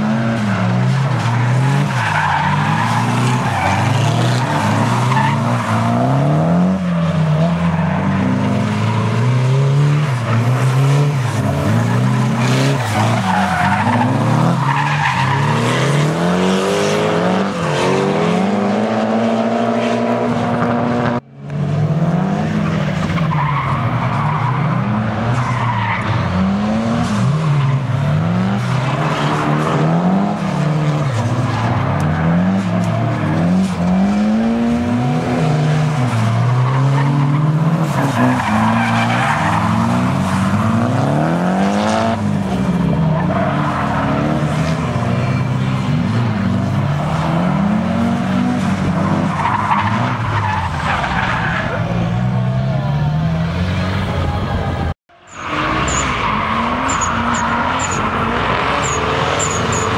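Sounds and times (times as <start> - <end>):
tires skidding and squealing: 0.0 - 21.2, 21.8 - 59.9
car engines revving: 0.0 - 59.9.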